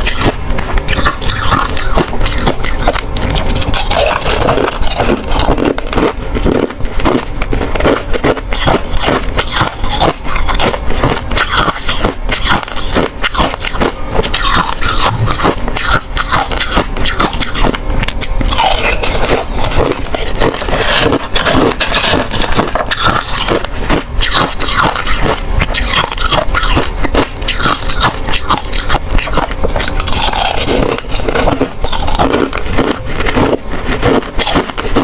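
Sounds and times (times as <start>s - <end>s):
ice crunching in mouth: 0.0s - 35.0s.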